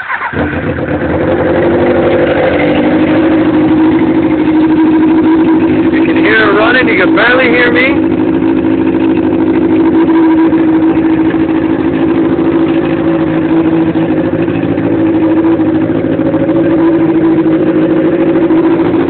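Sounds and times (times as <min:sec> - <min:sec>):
motorcycle engine idling loudly: 0:00.1 - 0:19.0.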